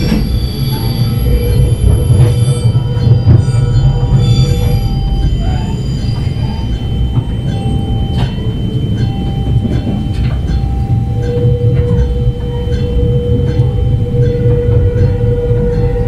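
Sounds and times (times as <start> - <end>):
crossing bell ringing: 0.0 - 16.0
train engine and wheels rumbling: 0.0 - 16.0.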